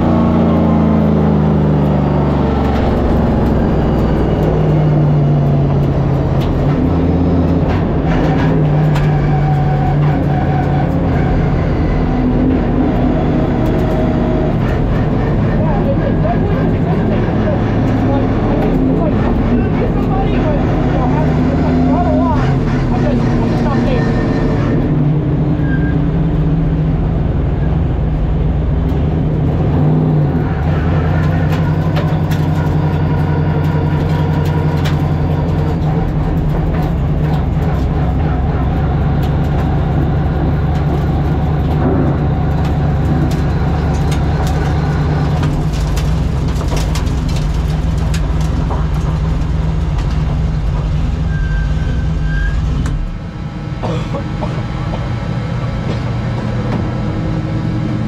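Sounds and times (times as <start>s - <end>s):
car engine idling: 0.0s - 25.7s, 26.3s - 58.0s.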